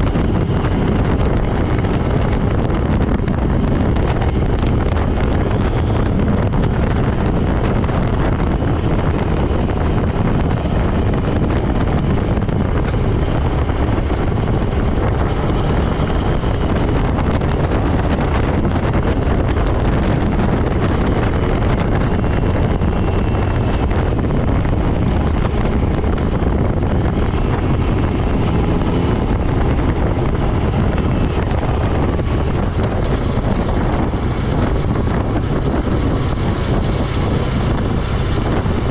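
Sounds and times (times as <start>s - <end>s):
motorcycle engine running: 0.0s - 38.9s
wind buffeting on microphone: 0.0s - 38.9s.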